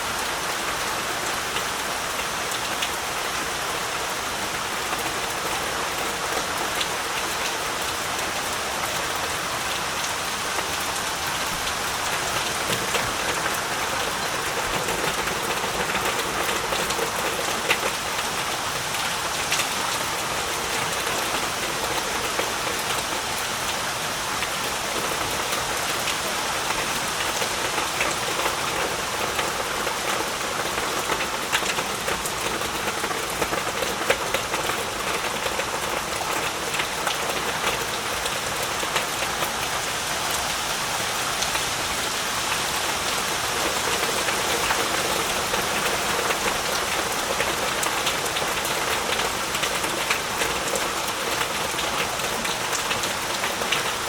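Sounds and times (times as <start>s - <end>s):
heavy rain falling: 0.0s - 54.0s
raindrops pattering on surfaces: 0.0s - 54.0s.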